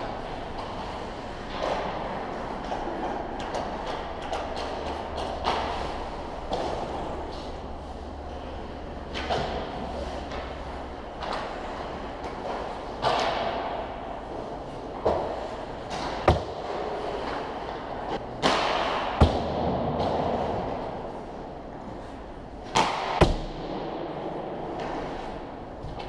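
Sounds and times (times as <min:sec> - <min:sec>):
hockey pucks smacking boards: 0:00.0 - 0:07.5, 0:09.1 - 0:14.2, 0:14.8 - 0:21.0, 0:22.6 - 0:26.0.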